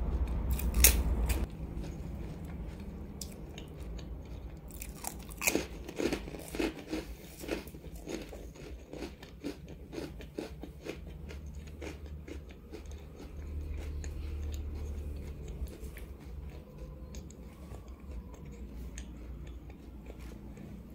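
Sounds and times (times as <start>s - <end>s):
low hum: 0.0s - 20.9s
soft chewing: 0.0s - 20.9s.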